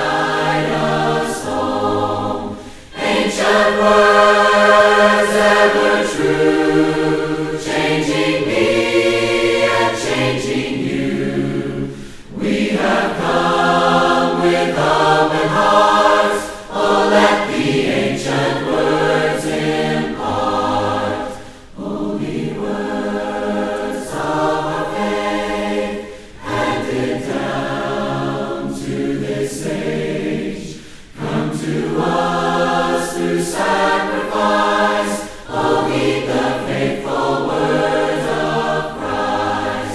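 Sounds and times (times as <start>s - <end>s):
group singing a hymn a cappella: 0.0s - 39.9s.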